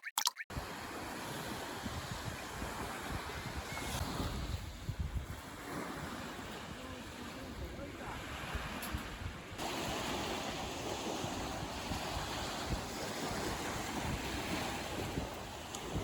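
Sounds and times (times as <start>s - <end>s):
waves washing onto beach: 0.5s - 16.0s
wind buffeting microphone: 0.5s - 16.0s.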